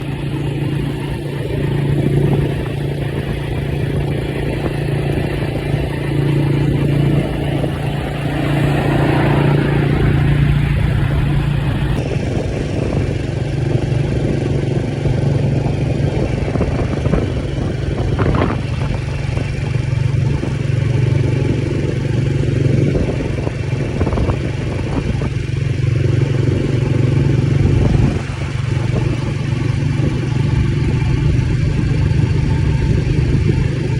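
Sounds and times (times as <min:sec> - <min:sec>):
motorbike engine cruising: 0:00.0 - 0:33.9.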